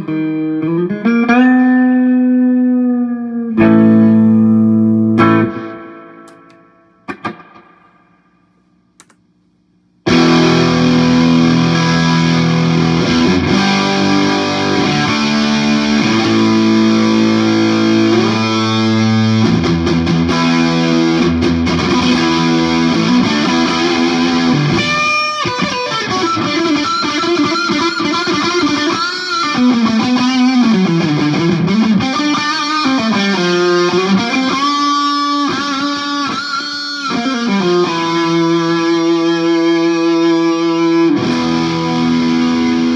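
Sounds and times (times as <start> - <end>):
distorted electric guitar: 0.0 - 9.2, 10.0 - 42.9.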